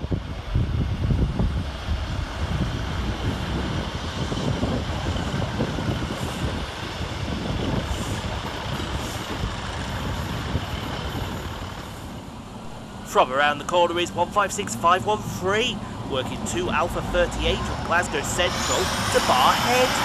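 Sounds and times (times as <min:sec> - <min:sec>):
diesel train rumbling past: 0:00.0 - 0:20.0.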